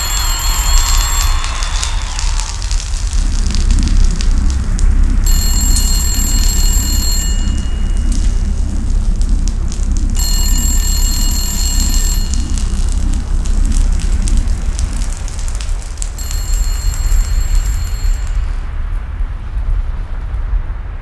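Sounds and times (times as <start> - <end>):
high steady ringing tone: 0.0 - 4.4, 5.2 - 18.8
fire roaring and crackling: 0.0 - 21.0.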